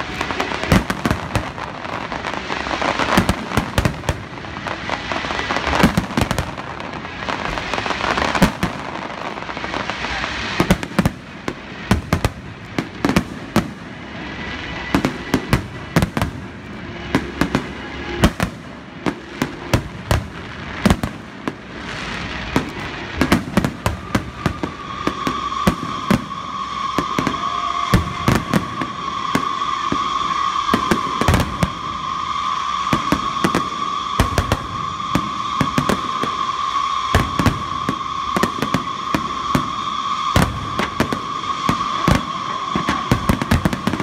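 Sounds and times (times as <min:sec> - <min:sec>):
fireworks bursting with sharp bangs: 0:00.0 - 0:44.0
steady high tone: 0:00.0 - 0:44.0.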